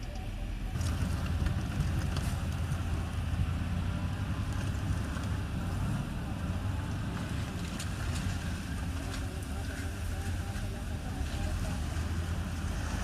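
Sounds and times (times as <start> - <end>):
diesel engine drone: 0.0 - 13.0.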